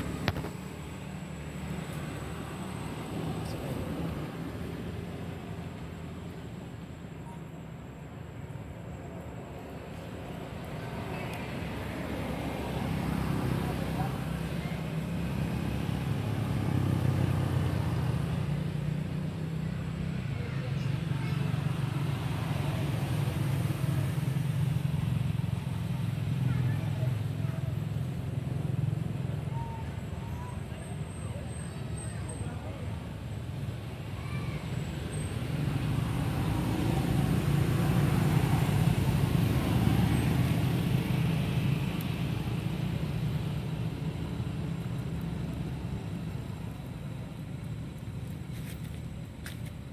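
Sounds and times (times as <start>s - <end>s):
vehicle engine rumble: 0.0s - 49.9s.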